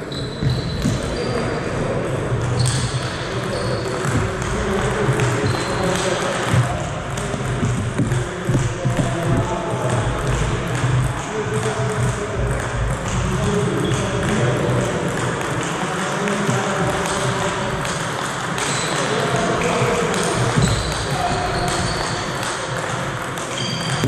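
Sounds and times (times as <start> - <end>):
ball bouncing on table: 2.3 - 15.3, 16.4 - 24.0
ping pong ball clicking off paddles: 2.3 - 24.0.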